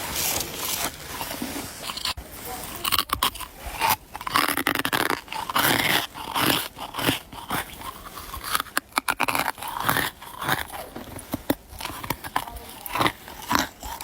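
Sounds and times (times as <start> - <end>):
person crunching ice: 0.0 - 14.0.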